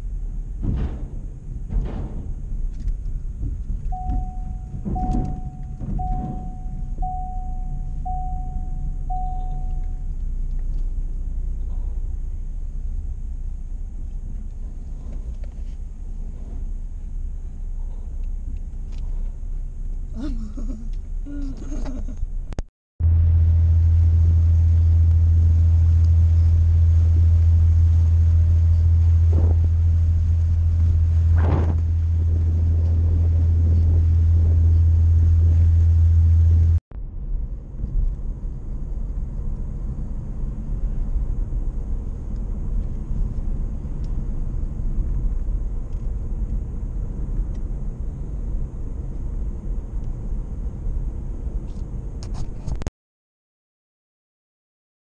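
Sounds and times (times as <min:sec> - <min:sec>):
ferry engines droning: 0:00.0 - 0:52.4
car rumble: 0:00.0 - 0:52.9.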